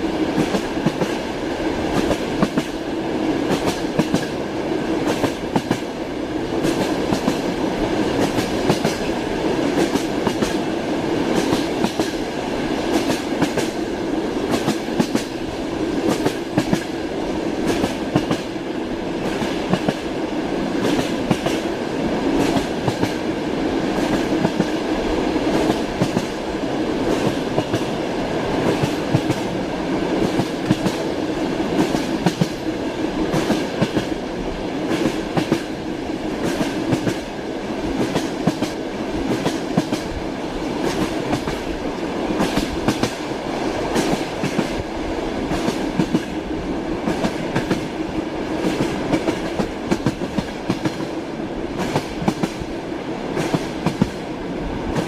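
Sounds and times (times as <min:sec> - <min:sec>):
train wheels clattering over rails: 0:00.0 - 0:34.2, 0:34.8 - 0:54.2.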